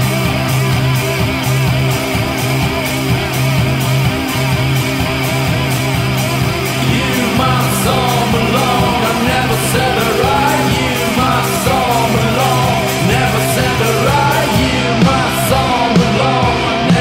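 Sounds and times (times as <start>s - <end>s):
loud rock music with singing: 0.0s - 17.0s.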